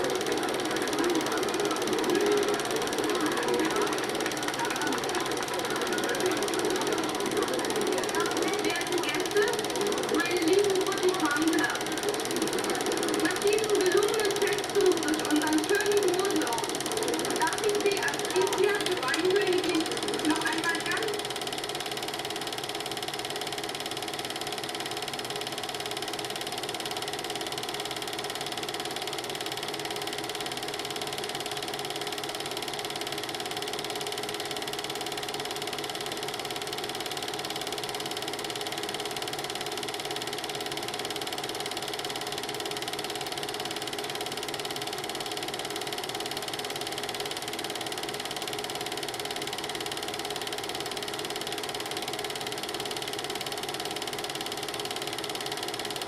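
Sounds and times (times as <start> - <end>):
film projector whirring and rattling: 0.0 - 56.0.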